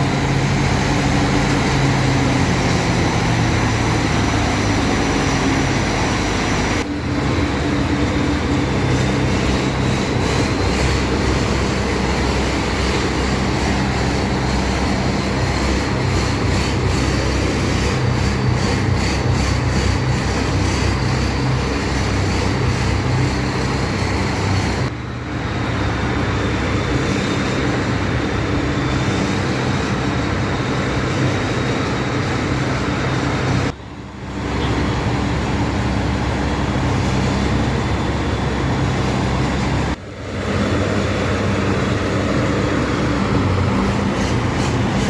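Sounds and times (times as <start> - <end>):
combine harvester engine drone: 0.0 - 45.0.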